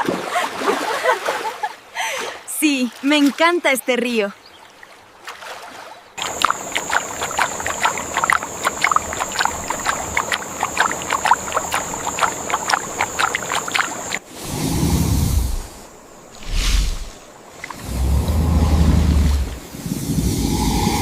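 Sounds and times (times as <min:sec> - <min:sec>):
river water splashing: 0:00.0 - 0:20.1.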